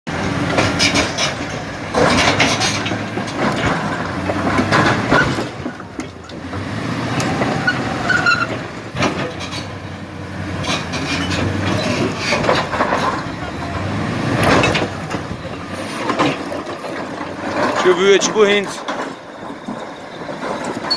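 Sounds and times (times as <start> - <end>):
knocks and rattles: 0.1 - 6.6, 7.2 - 9.9, 10.5 - 20.9
bulldozer engine droning: 0.1 - 20.9.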